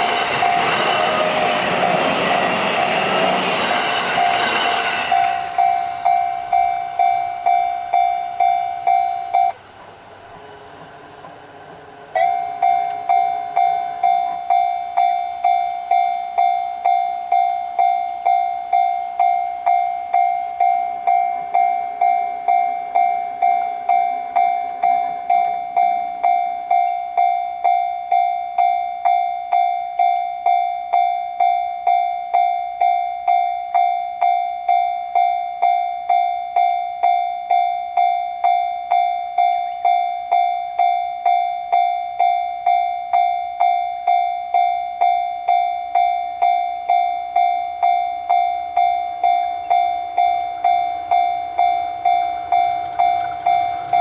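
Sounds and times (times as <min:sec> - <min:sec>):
railroad crossing bell ringing: 0:00.0 - 0:54.0.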